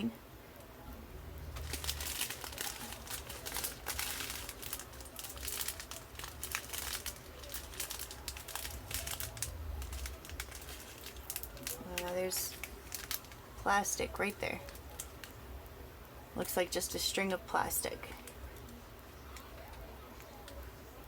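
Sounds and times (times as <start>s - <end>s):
plastic bags crinkling: 1.4s - 15.7s, 16.4s - 21.0s.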